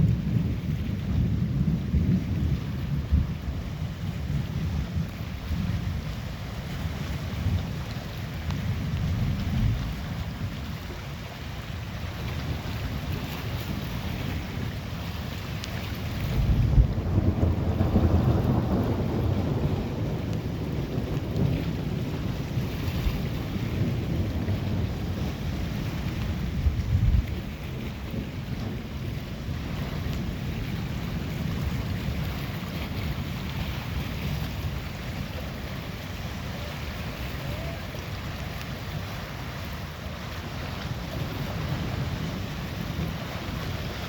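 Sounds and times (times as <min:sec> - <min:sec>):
rolling thunder: 0:00.0 - 0:11.0, 0:12.2 - 0:44.0
wind buffeting microphone: 0:00.0 - 0:44.0.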